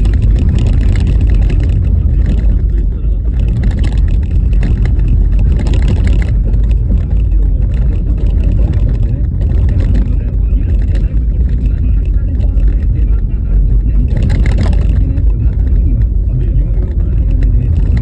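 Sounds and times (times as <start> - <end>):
car tyres rumbling on bumpy road: 0.0 - 18.0
small knocks and rattles: 0.0 - 18.0.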